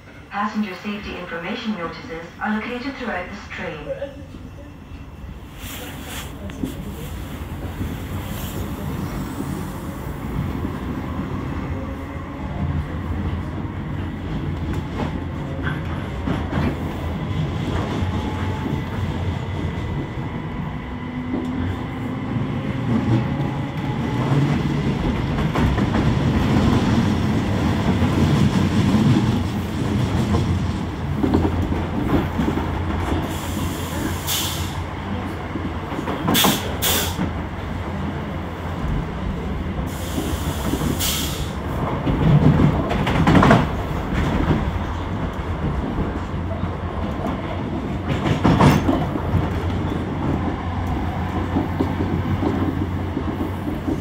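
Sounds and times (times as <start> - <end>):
train wheels rumbling on rails: 4.2 - 54.0.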